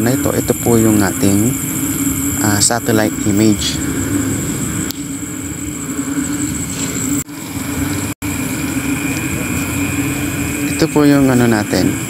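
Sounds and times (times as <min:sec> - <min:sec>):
constant low tone: 0:00.0 - 0:12.0
noisy wash: 0:00.0 - 0:12.0
steady background hum: 0:00.0 - 0:12.0.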